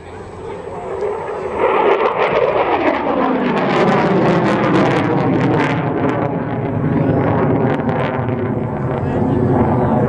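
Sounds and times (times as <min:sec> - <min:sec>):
jet aircraft passing overhead: 0:00.0 - 0:10.0.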